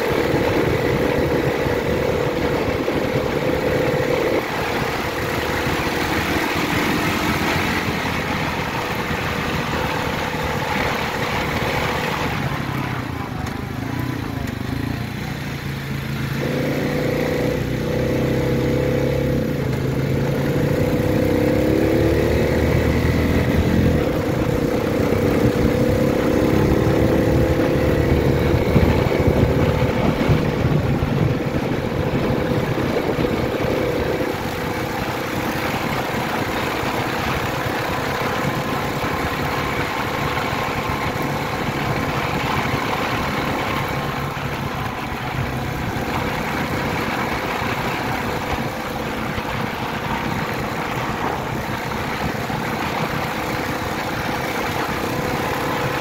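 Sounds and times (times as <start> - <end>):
atv engine running: 0.0 - 56.0
steady rushing noise: 0.0 - 56.0.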